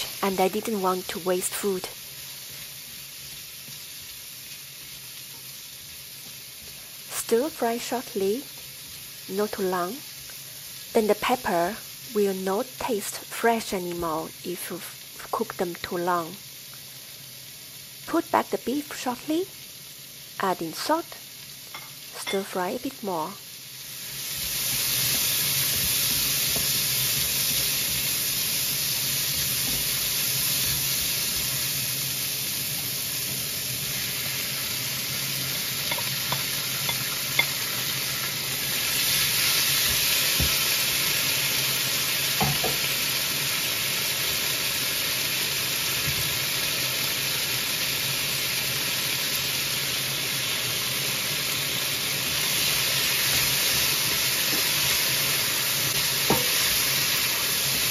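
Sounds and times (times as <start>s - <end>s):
food sizzling in a wok: 0.0s - 57.9s.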